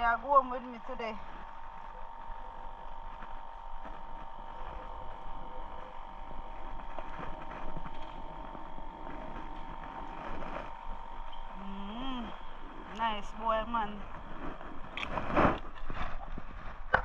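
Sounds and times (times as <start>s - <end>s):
motor running: 0.0s - 17.0s.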